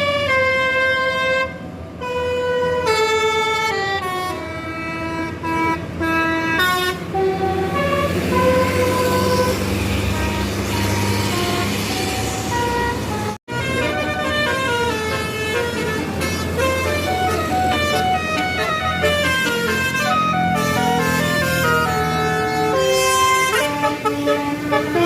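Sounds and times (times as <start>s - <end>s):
bus multi-tone horn playing tune: 0.0s - 25.0s
low engine hum: 0.0s - 25.0s.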